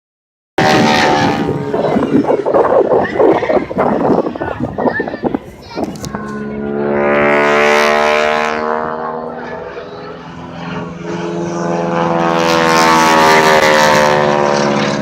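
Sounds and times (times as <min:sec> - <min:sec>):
propeller airplane engine droning: 0:00.6 - 0:15.0.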